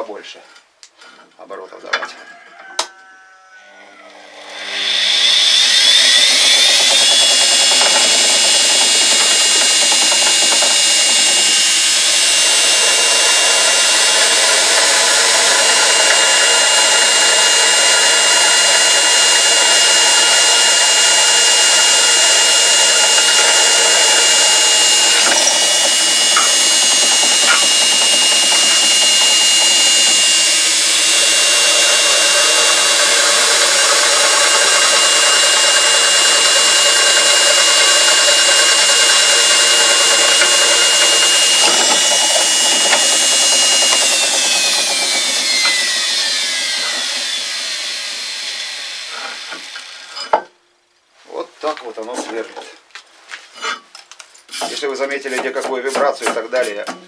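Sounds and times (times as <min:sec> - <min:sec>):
drill press drilling into steel: 0:04.4 - 0:50.4.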